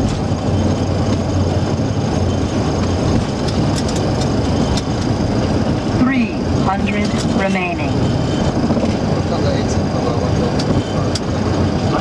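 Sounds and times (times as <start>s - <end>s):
jet engine noise: 0.0s - 12.0s
wheels rumbling on runway: 0.0s - 12.0s.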